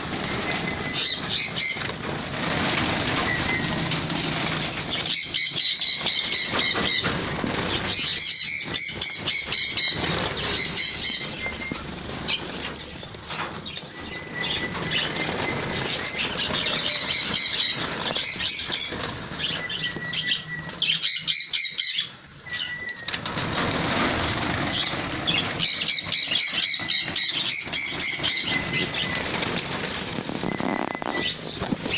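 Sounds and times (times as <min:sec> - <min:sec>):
birds buzzy chirping: 0:00.0 - 0:31.9.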